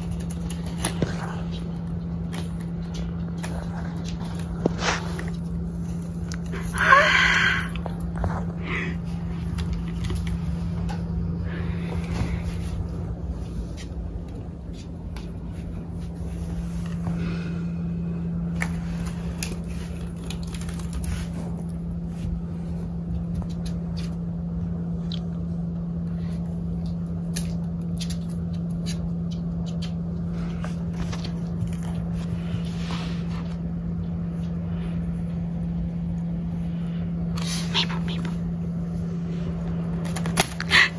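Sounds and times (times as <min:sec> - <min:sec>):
cat chewing leaves: 0:00.0 - 0:40.9
steady low hum: 0:00.0 - 0:40.9.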